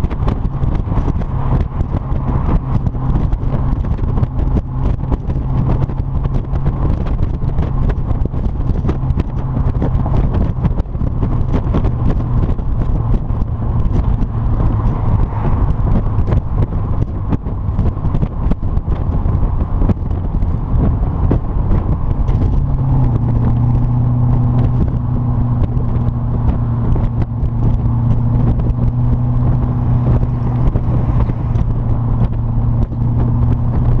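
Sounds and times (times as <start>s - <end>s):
car engine running steadily: 0.0s - 34.0s.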